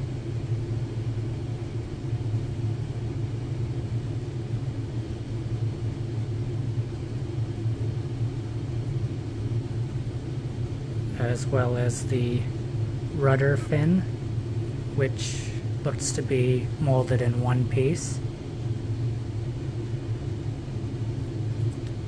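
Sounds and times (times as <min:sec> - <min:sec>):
low machinery hum: 0:00.0 - 0:22.0.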